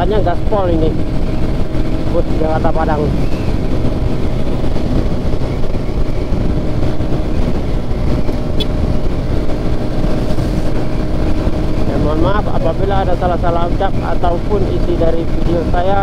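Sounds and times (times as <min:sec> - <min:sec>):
highway traffic drone: 0:00.0 - 0:16.0.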